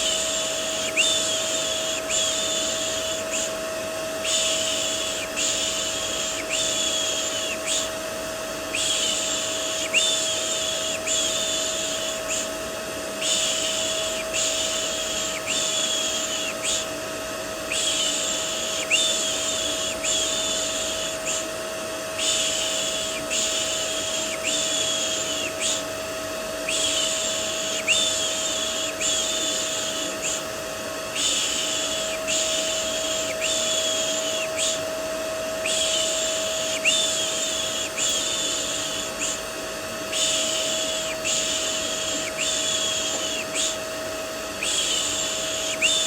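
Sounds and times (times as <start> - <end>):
vacuum cleaner drone: 0.0 - 46.0.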